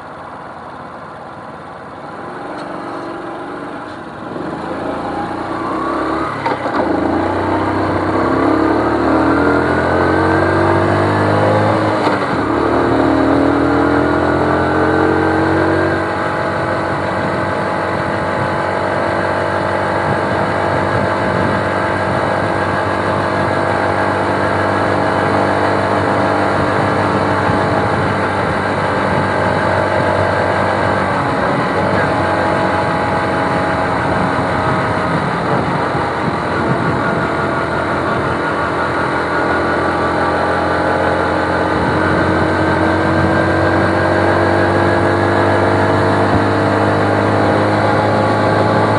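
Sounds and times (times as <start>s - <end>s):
small motorcycle engine accelerating: 2.4s - 48.9s.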